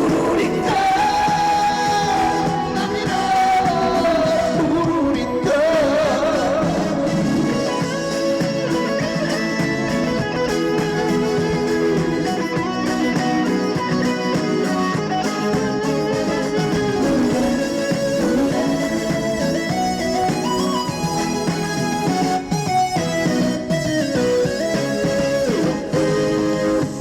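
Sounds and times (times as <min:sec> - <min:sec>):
band playing instrumental melody: 0:00.0 - 0:27.0.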